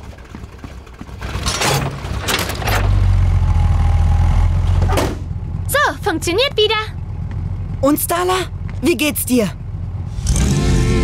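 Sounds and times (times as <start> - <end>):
truck engine starting and running: 0.0 - 11.0.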